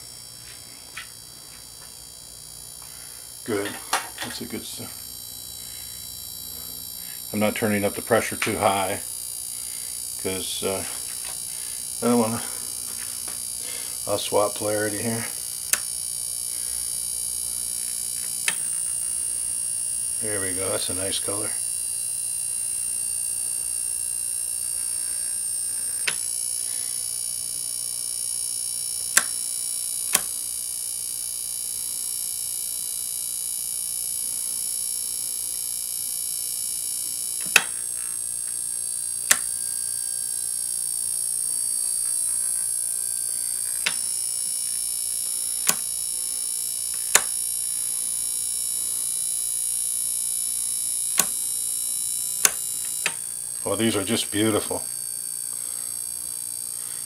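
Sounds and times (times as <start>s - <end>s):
high-pitched electrical whine: 0.0s - 57.0s
sharp electrical click: 6.9s - 54.7s.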